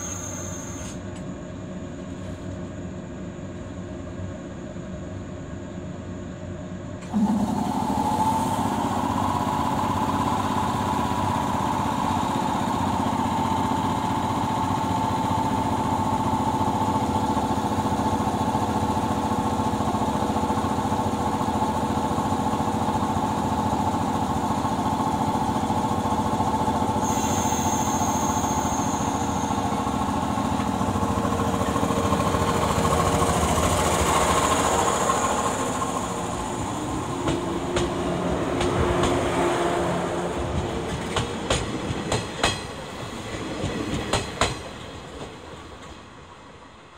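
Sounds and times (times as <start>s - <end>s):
train motor pulling away: 0.0s - 1.3s, 7.0s - 46.1s
train equipment humming: 0.0s - 46.9s
train equipment whine: 0.0s - 46.9s.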